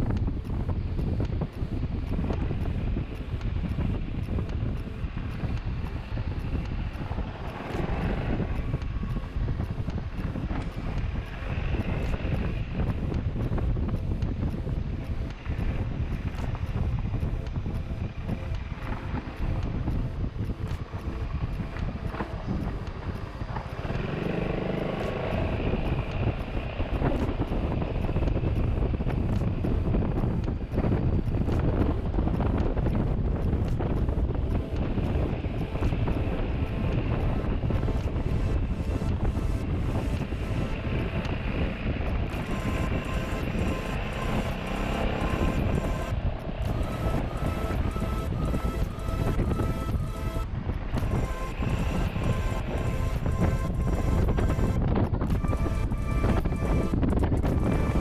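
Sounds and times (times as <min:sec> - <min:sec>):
motorcycle engine running: 0:00.0 - 0:49.1
road rumble: 0:00.0 - 0:58.0
wind buffeting microphone: 0:00.0 - 0:58.0.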